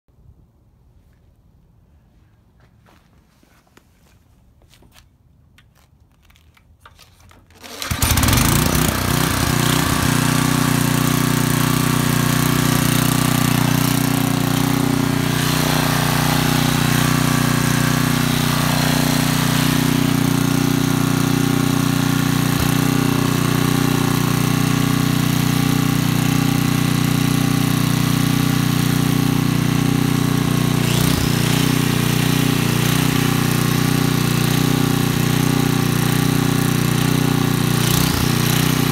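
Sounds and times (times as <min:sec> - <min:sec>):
generator engine running: 0:07.6 - 0:38.9.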